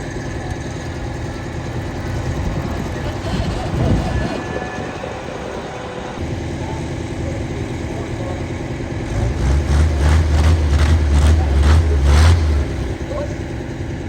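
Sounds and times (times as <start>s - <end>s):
engine running with deep drone: 0.0s - 14.0s.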